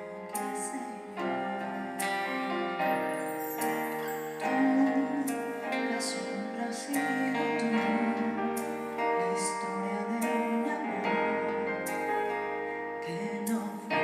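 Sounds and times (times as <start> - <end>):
live band playing chords: 0.0 - 14.0.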